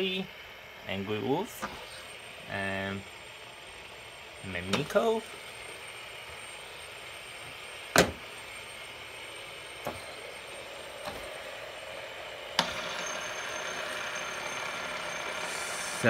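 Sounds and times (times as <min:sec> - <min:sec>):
fidget spinners whirring: 0:00.0 - 0:16.0
thin high whine: 0:00.0 - 0:16.0.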